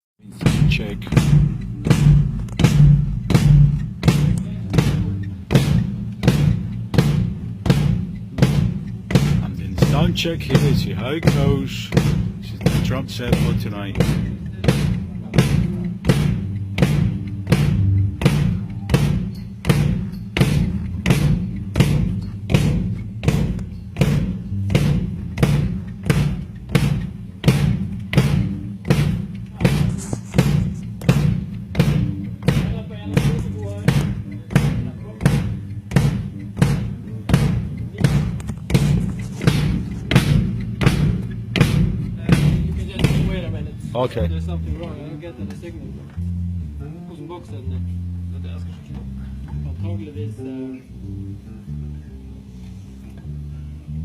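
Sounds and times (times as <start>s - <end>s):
low ringing drum tone: 0.2s - 46.8s
drum kit slow beat: 0.2s - 49.9s.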